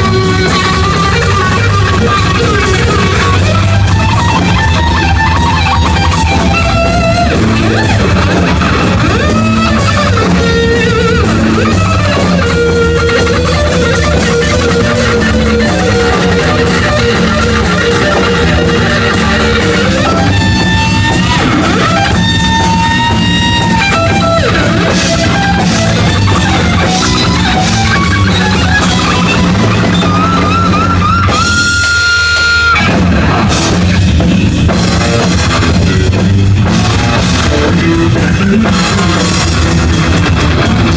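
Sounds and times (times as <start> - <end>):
bass and drums: 0.0 - 40.9
electric guitar lead: 0.0 - 40.9.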